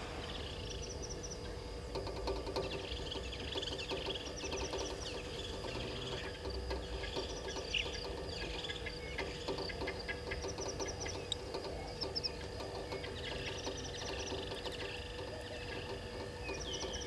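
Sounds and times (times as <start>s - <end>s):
birds chirping and trilling: 0.0s - 17.0s
steady low hum: 0.0s - 17.0s.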